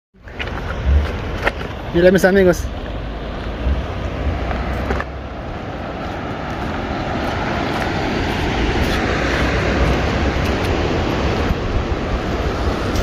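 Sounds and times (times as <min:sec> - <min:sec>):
steady rushing noise: 0:00.2 - 0:13.0
wind buffeting microphone: 0:00.2 - 0:13.0.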